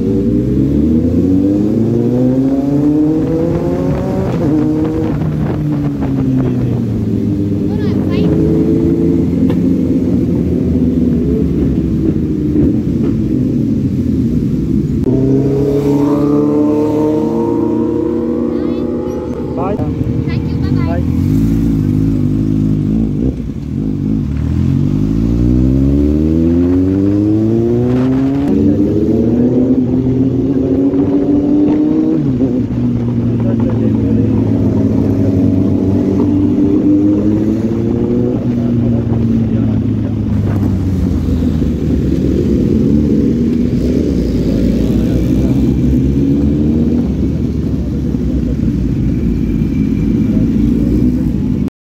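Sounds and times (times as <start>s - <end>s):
motorcycle engine accelerating: 0.0s - 51.7s.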